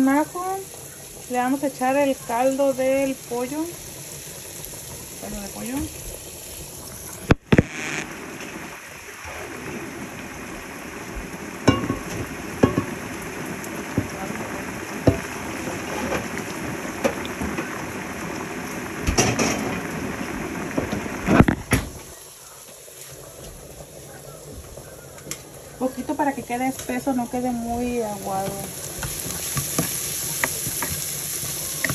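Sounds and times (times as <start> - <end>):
onions sizzling in oil: 0.0 - 31.9.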